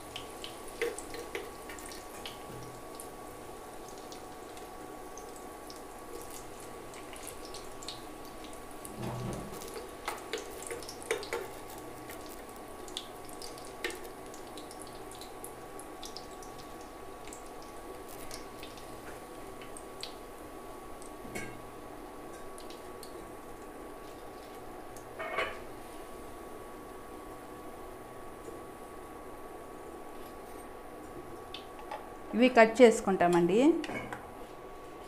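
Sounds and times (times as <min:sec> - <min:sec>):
oil sizzling and crackling: 0:00.0 - 0:32.5.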